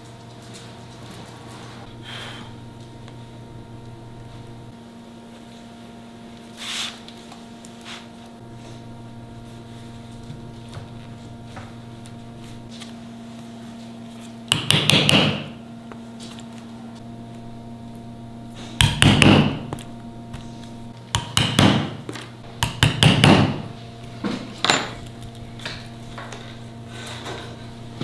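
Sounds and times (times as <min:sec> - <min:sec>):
low workshop hum: 0:00.0 - 0:28.0.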